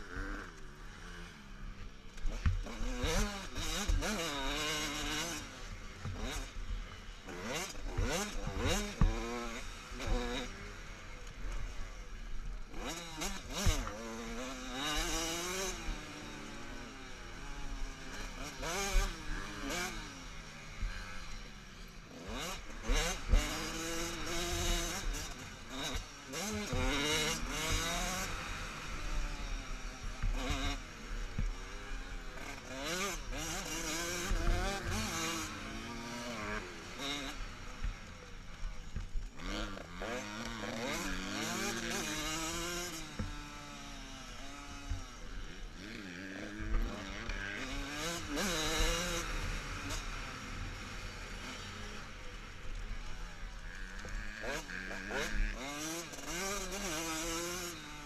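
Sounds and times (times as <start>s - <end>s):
motocross motorcycles revving: 0.0s - 58.0s.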